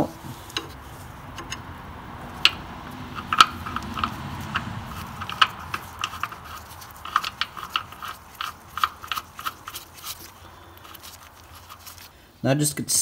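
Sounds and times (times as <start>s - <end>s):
metal threads clicking and scraping: 0.4s - 12.1s.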